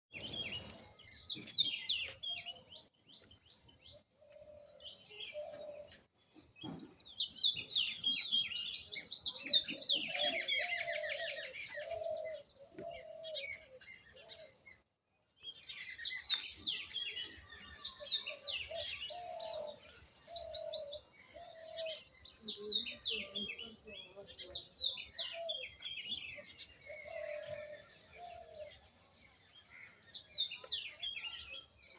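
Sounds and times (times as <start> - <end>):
birds chirping and singing: 0.1 - 31.9.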